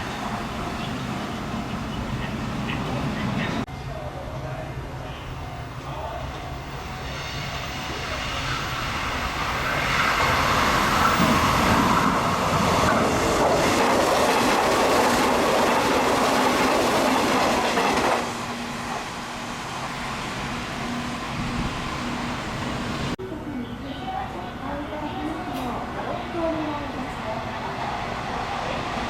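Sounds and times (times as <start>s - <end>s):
train wheel and rail noise: 0.0s - 29.0s.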